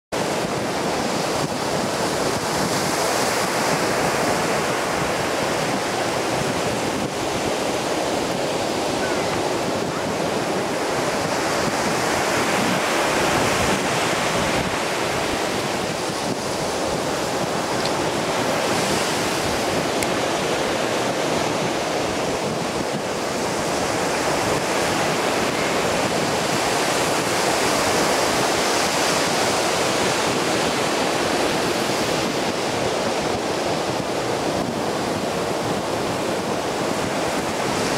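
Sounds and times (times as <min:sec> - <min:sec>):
waves breaking on a beach: 0:00.2 - 0:37.9
wind on microphone: 0:00.2 - 0:37.9.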